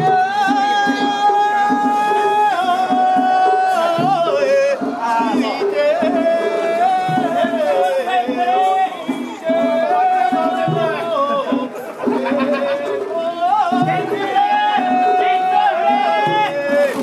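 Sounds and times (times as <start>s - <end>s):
low drum beats: 0.0s - 17.0s.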